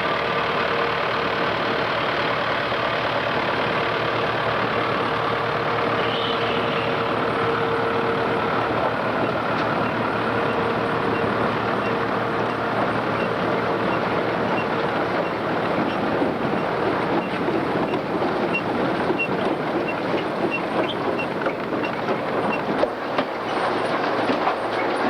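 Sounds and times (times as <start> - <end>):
machinery clattering and rattling: 0.0 - 25.0.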